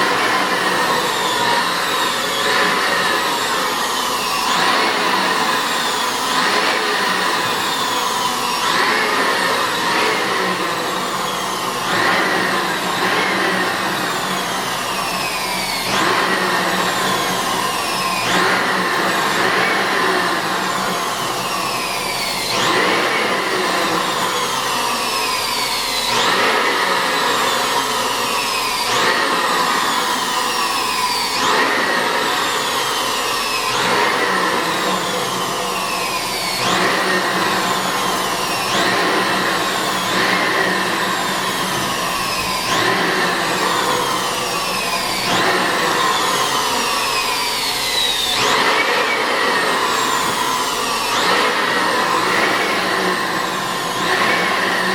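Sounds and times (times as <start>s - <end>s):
electric blower motor sweeping pitch: 0.0s - 54.9s.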